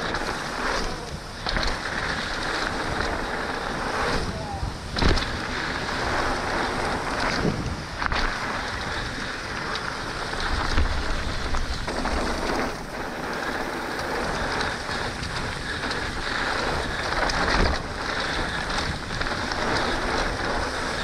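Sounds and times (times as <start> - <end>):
bike knocks and rattles: 0.0 - 21.0
wind rushing over microphone: 0.0 - 21.0.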